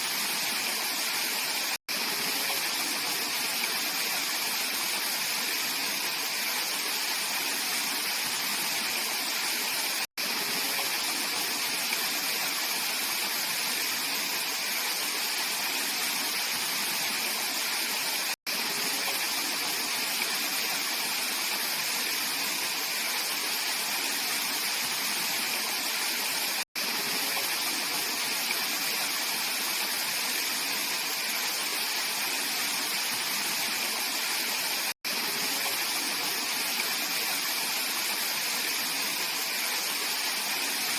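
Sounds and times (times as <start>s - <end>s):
stream water rushing over rocks: 0.0s - 40.9s.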